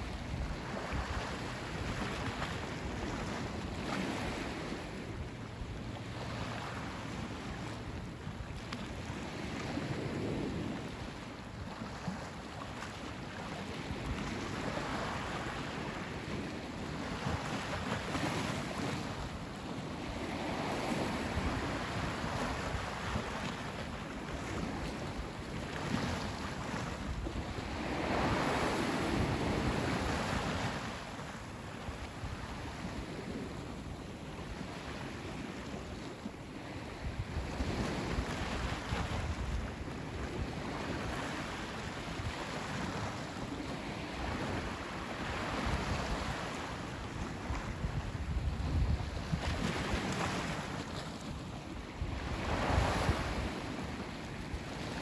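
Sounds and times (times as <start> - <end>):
small waves washing onto sand: 0.0 - 55.0
wind rumbling on microphone: 0.0 - 55.0.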